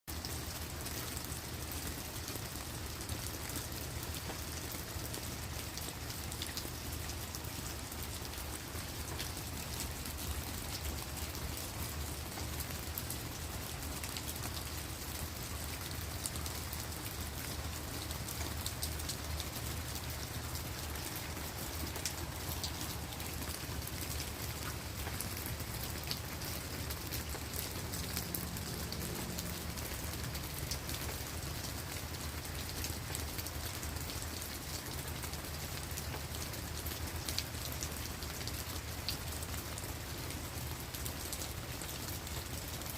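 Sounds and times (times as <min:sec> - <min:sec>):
rain on leaves and ground: 0:00.1 - 0:42.9.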